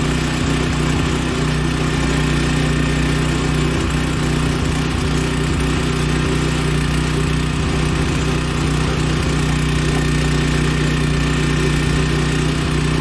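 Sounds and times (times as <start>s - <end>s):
backhoe engine idling: 0.0s - 13.0s.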